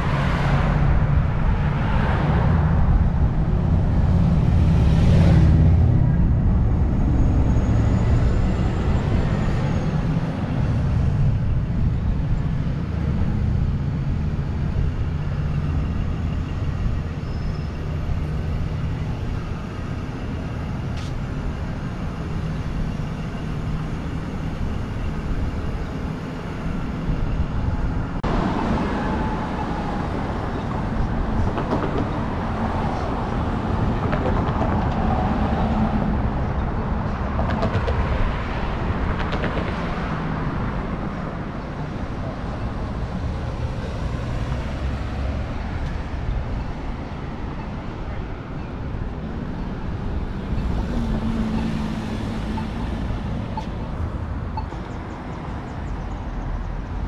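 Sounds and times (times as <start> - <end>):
vehicle traffic passing: 0.0 - 57.0.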